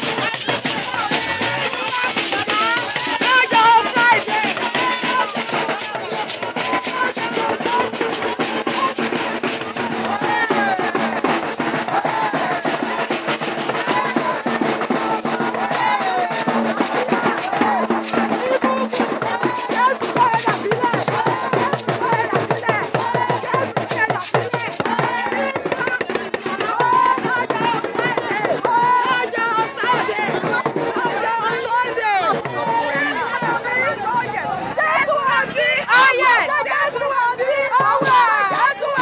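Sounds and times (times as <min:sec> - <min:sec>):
drums: 0:00.0 - 0:39.0
shaker rhythm: 0:00.0 - 0:39.0
voices singing: 0:00.0 - 0:39.0.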